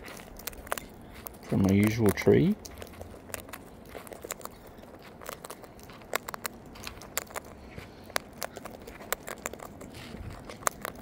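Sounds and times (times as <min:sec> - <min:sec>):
cockatoo cracking seeds: 0:00.0 - 0:11.0.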